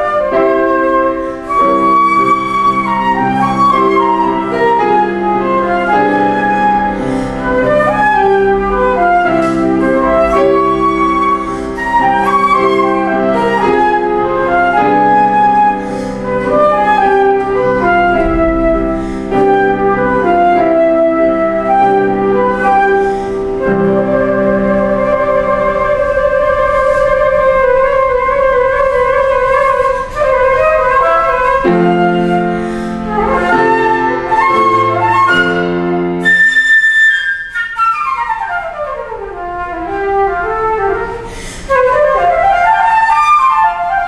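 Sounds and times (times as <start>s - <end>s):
flute melody: 0.0s - 44.0s
grand piano: 0.0s - 44.0s.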